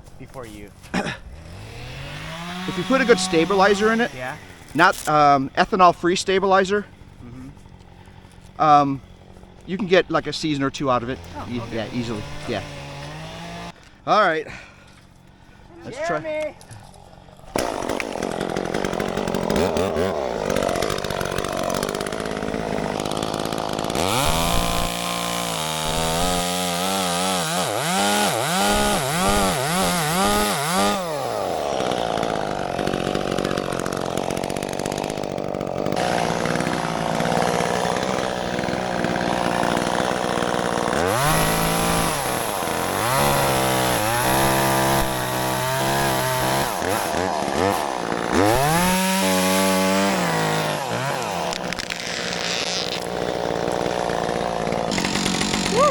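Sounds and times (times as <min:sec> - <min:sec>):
two-stroke chainsaw revving: 0:01.0 - 0:13.8, 0:16.1 - 0:55.9.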